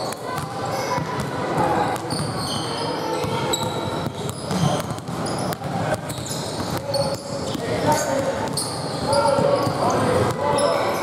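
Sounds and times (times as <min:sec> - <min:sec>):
sneaker squeaks: 0:00.0 - 0:11.0.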